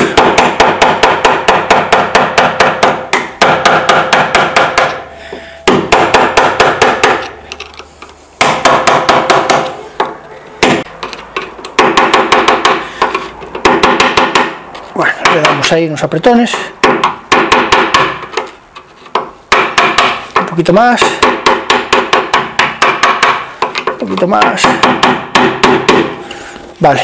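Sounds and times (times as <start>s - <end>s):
hammer tapping on metal: 0.0s - 7.4s, 8.4s - 14.6s, 15.2s - 15.8s, 16.4s - 18.5s, 19.1s - 26.4s.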